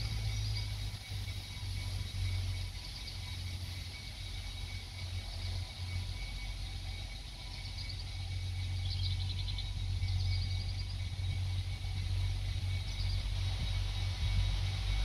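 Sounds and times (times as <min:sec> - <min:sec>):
distant train engine rumble: 0:00.0 - 0:15.0.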